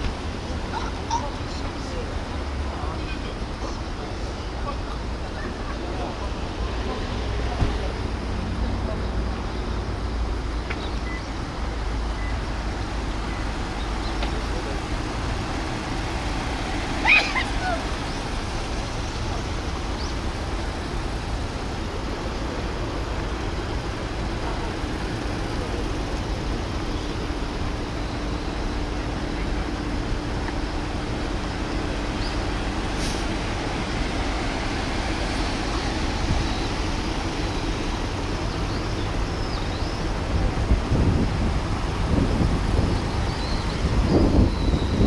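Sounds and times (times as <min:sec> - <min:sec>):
distant road traffic rumble: 0:00.0 - 0:45.0.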